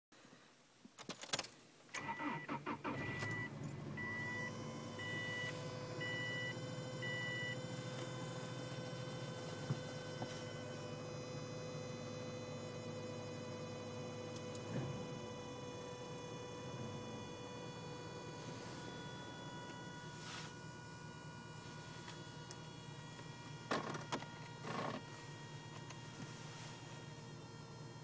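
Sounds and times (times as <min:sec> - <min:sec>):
car engine starting and idling: 0:01.9 - 0:28.0
engine whine: 0:02.0 - 0:28.0.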